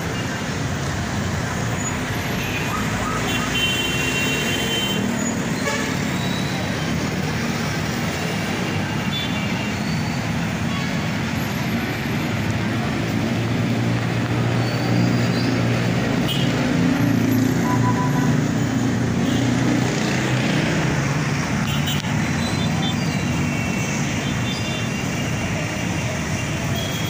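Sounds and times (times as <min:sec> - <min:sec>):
city traffic engines idling: 0:00.0 - 0:27.0.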